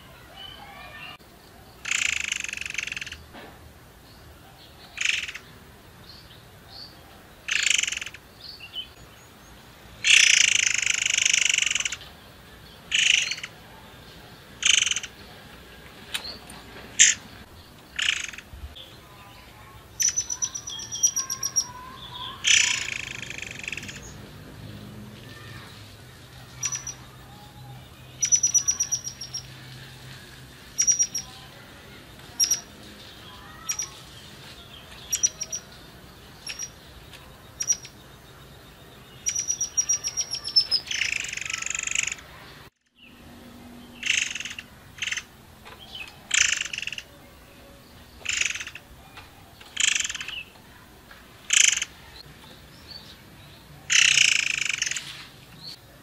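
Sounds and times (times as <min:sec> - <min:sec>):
songbird calling: 0:00.0 - 0:03.4, 0:04.1 - 0:24.3, 0:25.2 - 0:50.8, 0:51.4 - 0:55.8.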